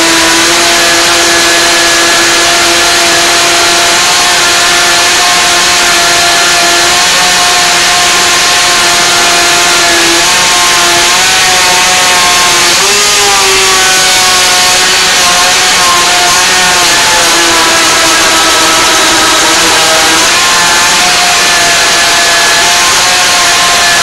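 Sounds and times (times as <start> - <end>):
blender motor whining: 0.0 - 24.0.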